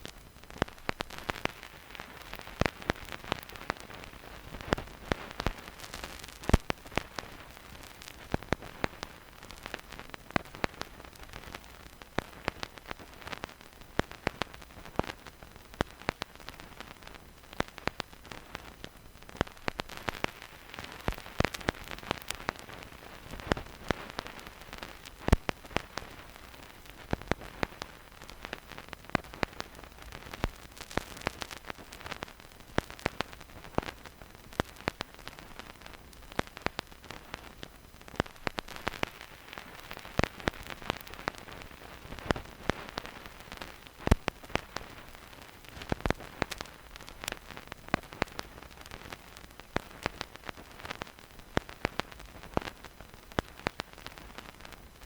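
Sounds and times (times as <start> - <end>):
vinyl record hiss and crackle: 0.0 - 55.0.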